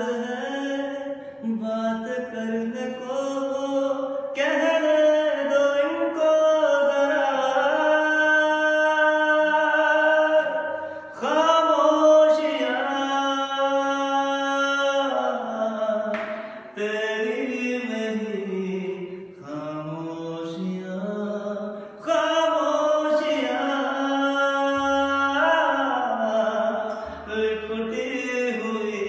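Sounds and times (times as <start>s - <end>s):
man singing unaccompanied: 0.0s - 29.0s.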